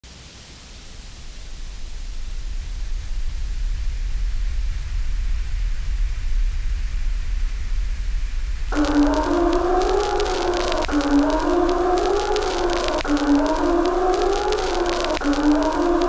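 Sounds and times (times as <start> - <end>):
faint hiss: 0.0 - 16.0
low steady rumbling: 0.2 - 16.0.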